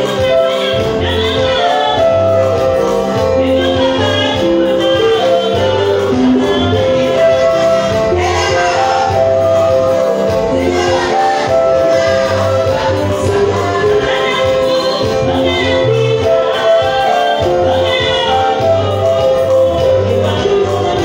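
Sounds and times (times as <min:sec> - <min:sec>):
electric keyboard chords: 0:00.0 - 0:21.0
women singing gospel: 0:00.0 - 0:21.0
pulsing bass line: 0:00.8 - 0:21.0.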